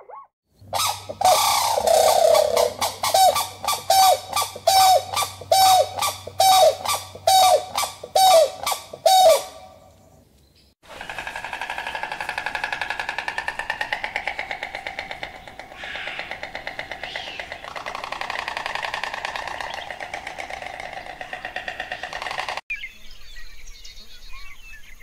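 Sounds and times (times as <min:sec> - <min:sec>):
fast pulsing animal call: 0:00.7 - 0:09.6, 0:10.8 - 0:22.6
crane honking calls: 0:00.8 - 0:09.8, 0:10.9 - 0:22.5.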